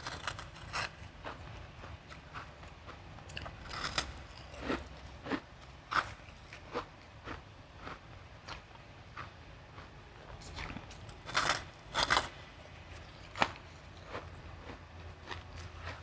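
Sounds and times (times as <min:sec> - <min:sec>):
crushed ice being chewed: 0:00.0 - 0:16.0.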